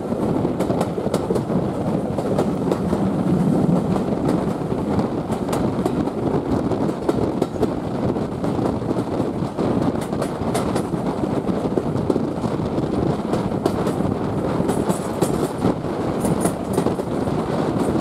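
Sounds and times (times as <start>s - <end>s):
train rumbling on track: 0.0s - 18.0s
wheels clicking over rail joints: 0.0s - 18.0s.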